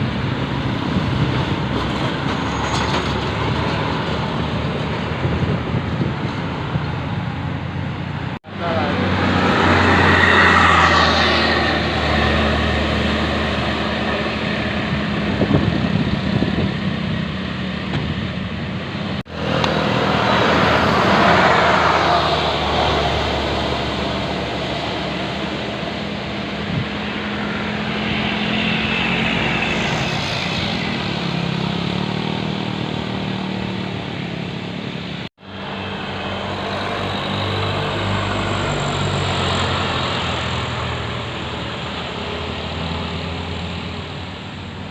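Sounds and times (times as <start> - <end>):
buses driving past: 0.0 - 44.9.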